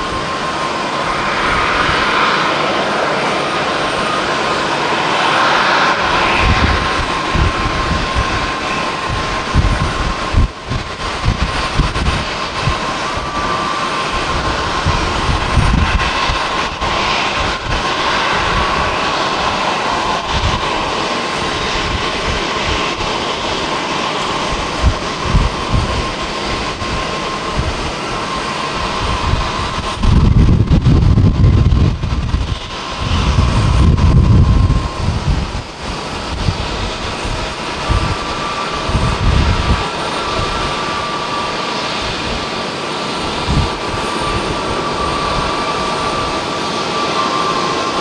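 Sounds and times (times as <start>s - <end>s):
jet engines at low thrust: 0.0s - 48.0s
wind buffeting microphone: 0.0s - 48.0s.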